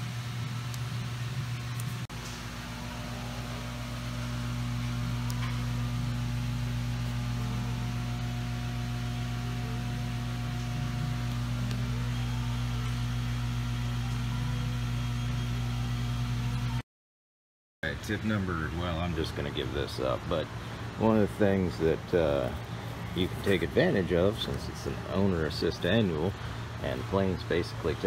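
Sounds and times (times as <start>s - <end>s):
low machine hum: 0.0s - 16.8s, 17.8s - 28.0s.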